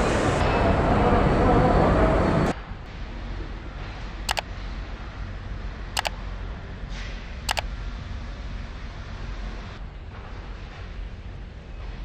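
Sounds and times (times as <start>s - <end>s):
low factory hum: 0.0s - 12.0s.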